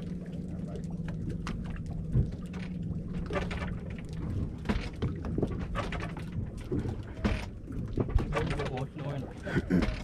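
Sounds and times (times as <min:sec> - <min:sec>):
water splashing against boat hull: 0:00.0 - 0:10.0.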